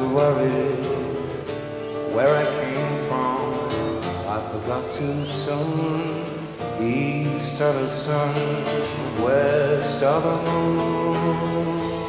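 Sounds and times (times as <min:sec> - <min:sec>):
guitar: 0:00.0 - 0:12.0.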